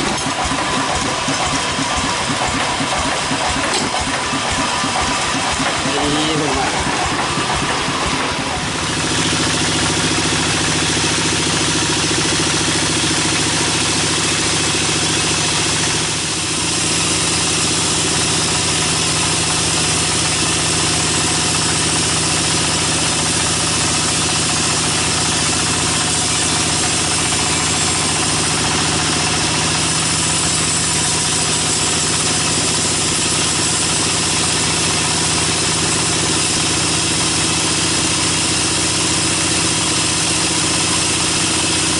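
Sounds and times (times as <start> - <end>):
band saw cutting log: 0.0 - 41.9.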